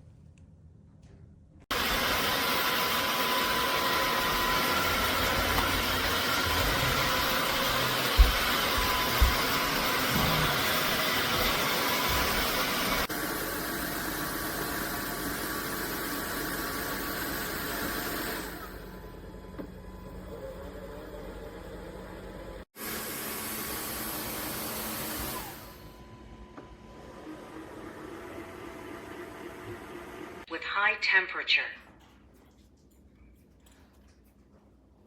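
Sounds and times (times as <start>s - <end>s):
vacuum mop motor running: 1.7s - 30.5s.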